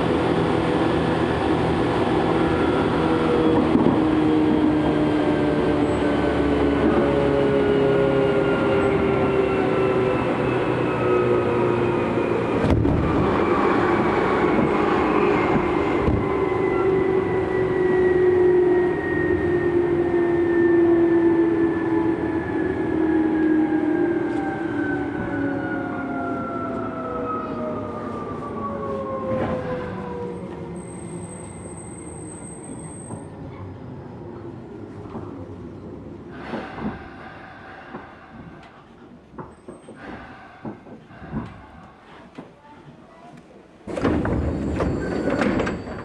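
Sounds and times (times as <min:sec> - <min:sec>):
train running noise: 0:00.0 - 0:25.5, 0:27.6 - 0:46.0.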